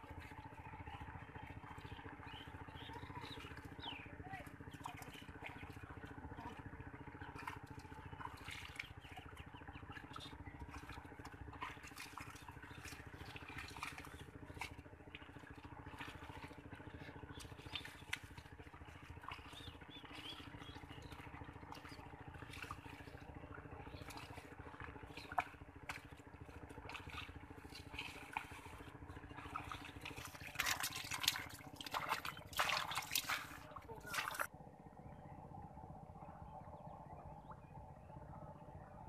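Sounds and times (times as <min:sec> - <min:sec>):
hands splashing in muddy water: 0:00.0 - 0:34.5
faint mechanical hum: 0:00.0 - 0:39.0.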